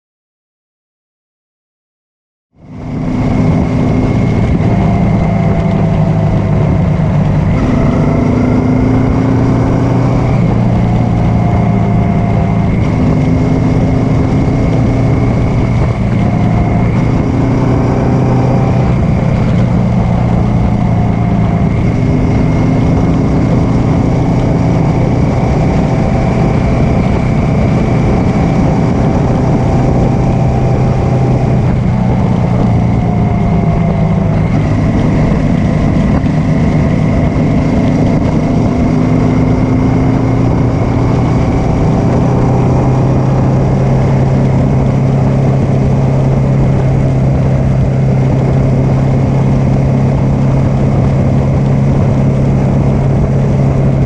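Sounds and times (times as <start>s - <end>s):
motorcycle engine running: 2.6s - 54.0s
wind rush on microphone: 2.6s - 54.0s.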